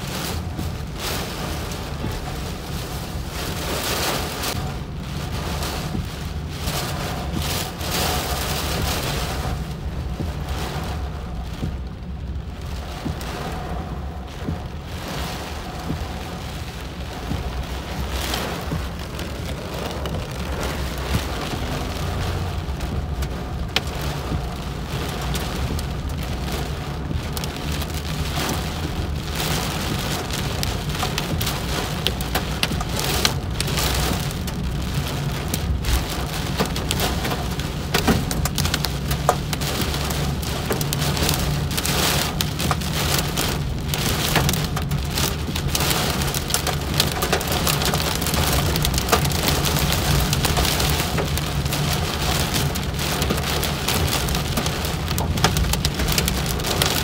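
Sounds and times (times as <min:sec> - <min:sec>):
car driving rumble: 0:00.0 - 0:57.0
heavy rain on car windshield: 0:00.0 - 0:57.0.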